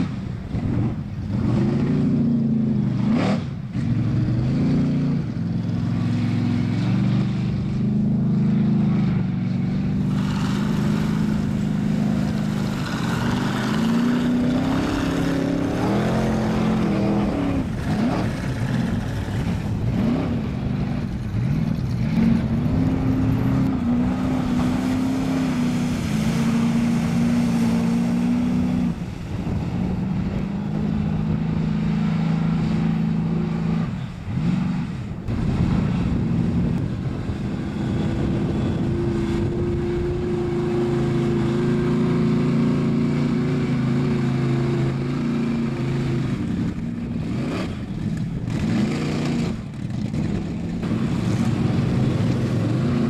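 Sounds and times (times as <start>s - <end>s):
truck engine revving under load: 0.0s - 53.0s.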